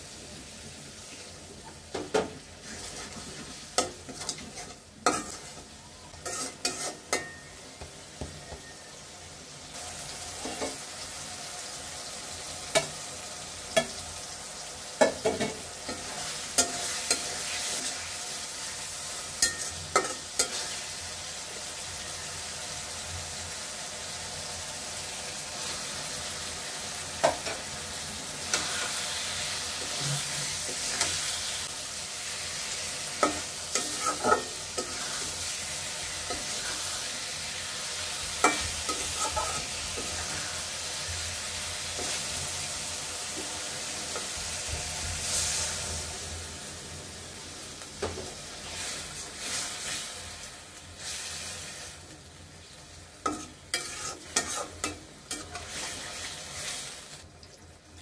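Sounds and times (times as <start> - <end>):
sauce sizzling in a pan: 0.0 - 58.0.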